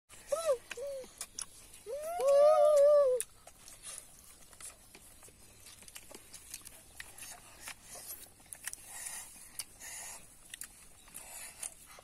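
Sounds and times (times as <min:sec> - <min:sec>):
chewing clicks and smacks: 0:00.1 - 0:12.0.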